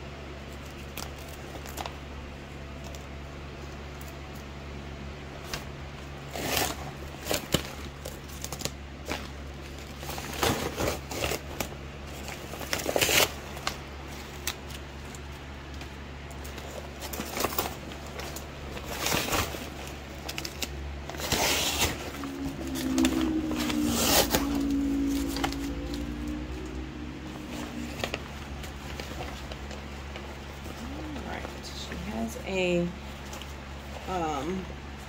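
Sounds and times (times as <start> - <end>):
low steady hum: 0.0 - 35.0
paper wrapping crinkling: 0.3 - 4.5, 5.3 - 32.3.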